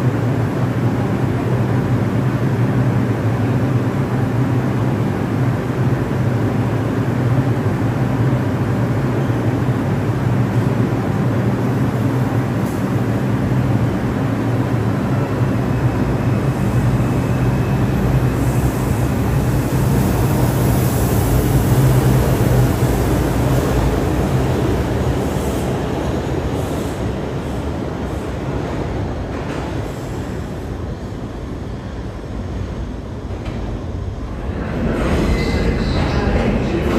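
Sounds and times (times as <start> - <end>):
subway train wheels rumbling: 0.0 - 36.9.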